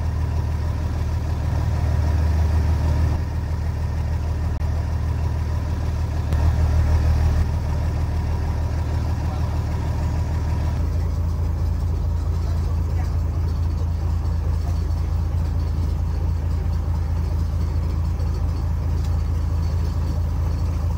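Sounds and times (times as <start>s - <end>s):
boat engine droning: 0.0s - 20.9s.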